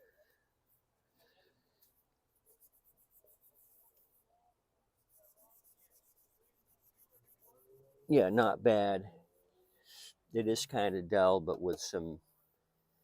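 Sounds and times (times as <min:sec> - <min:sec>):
faint rapid scratching: 0:00.0 - 0:11.0.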